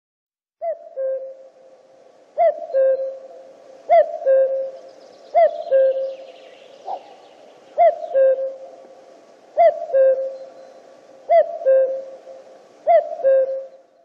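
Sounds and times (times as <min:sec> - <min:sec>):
cuckoo calling: 0:00.6 - 0:01.8, 0:02.4 - 0:14.0.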